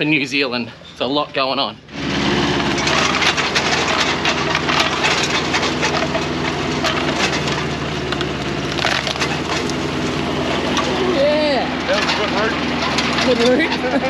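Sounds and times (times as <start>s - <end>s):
engine running: 0.0s - 14.0s
wood cracking and splintering: 2.0s - 13.8s.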